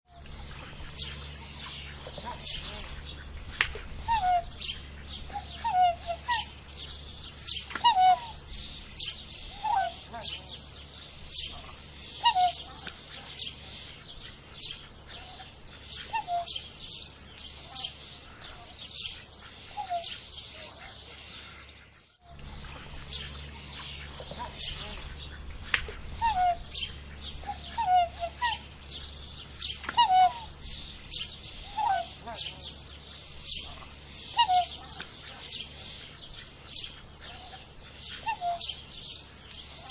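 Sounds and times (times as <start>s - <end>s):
small birds chirping: 0.1s - 39.9s
swan calling: 0.1s - 39.9s.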